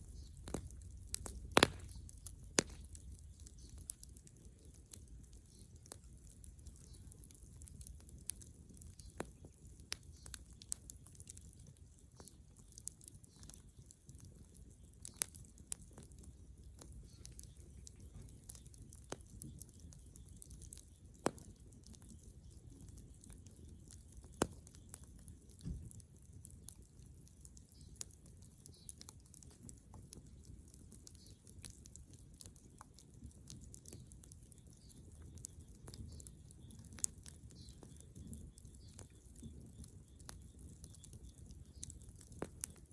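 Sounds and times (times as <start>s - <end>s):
bonfire crackling and popping: 0.0s - 42.9s.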